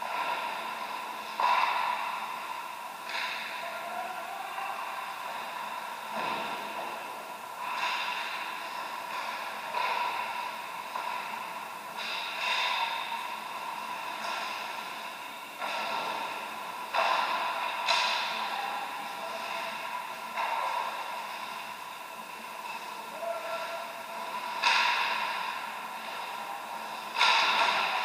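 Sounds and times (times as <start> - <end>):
steady rink hum: 0.0 - 28.0.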